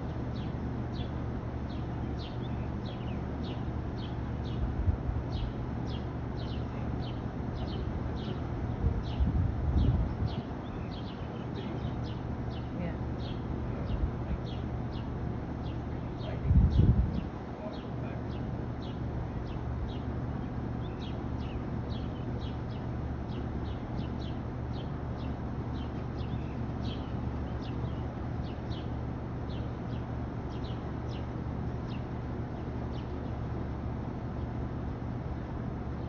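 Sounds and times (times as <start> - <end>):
bird chirping: 0.0 - 4.7, 5.3 - 33.5
steady low hum: 0.0 - 36.0.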